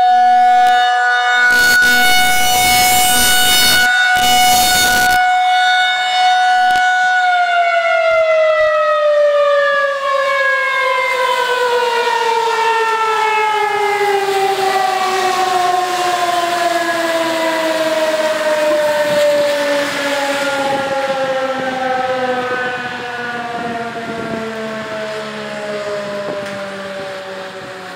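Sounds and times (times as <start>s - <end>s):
warning siren winding down: 0.0s - 27.9s.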